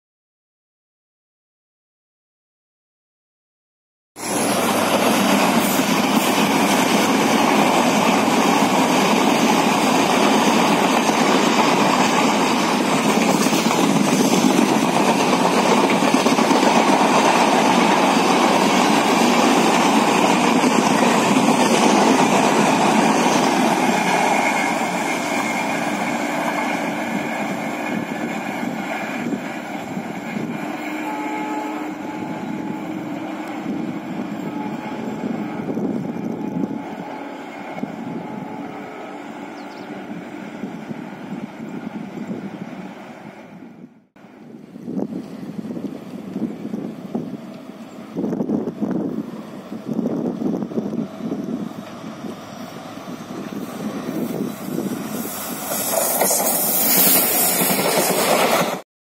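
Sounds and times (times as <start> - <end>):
train wheels rushing on track: 4.2 - 58.8.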